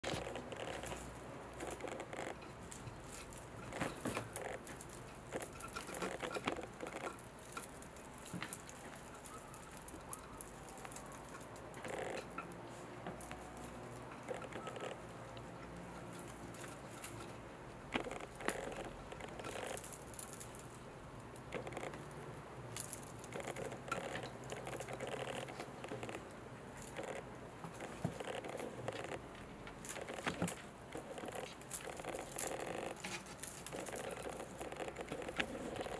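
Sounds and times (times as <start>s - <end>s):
kitten claws scratching blanket: 0.0s - 20.8s, 22.8s - 35.9s.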